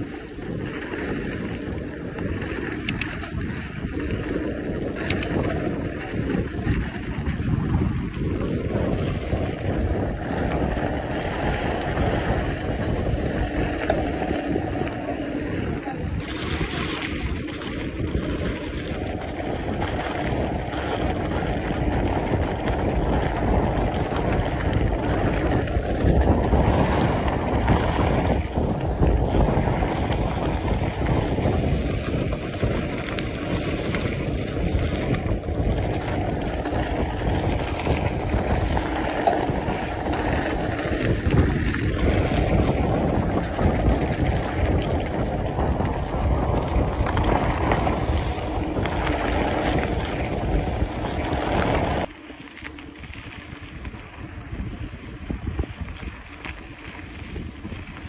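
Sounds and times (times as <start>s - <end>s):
bike tyres rolling on dirt: 0.0s - 58.0s
wind buffeting microphone: 0.0s - 58.0s.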